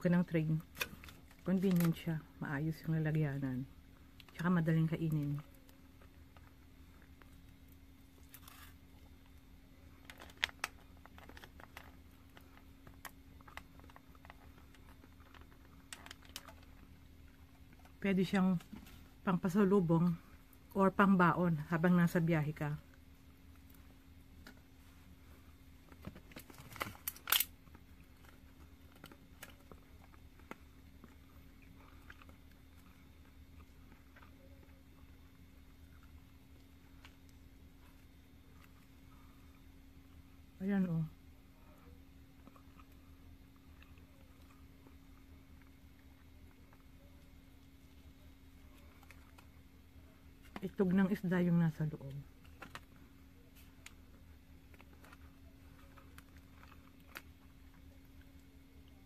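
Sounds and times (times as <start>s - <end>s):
faint steady hum: 0.0s - 59.0s
chewing food: 3.6s - 19.2s, 22.9s - 40.5s, 41.2s - 50.6s, 52.3s - 59.0s.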